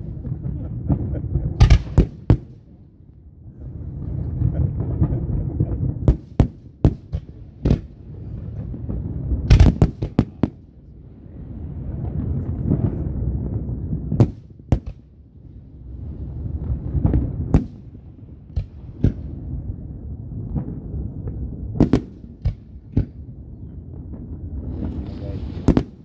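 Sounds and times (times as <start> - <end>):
fireworks bangs: 0.0 - 2.8, 4.0 - 10.7, 11.4 - 15.2, 16.0 - 26.0.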